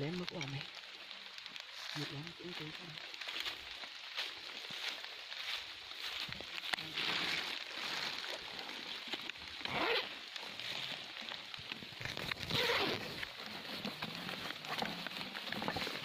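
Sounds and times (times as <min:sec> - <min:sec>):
dry leaves rustling: 0:00.0 - 0:16.0
plastic sack rustling: 0:00.0 - 0:16.0
sack swishing through undergrowth: 0:03.2 - 0:16.0.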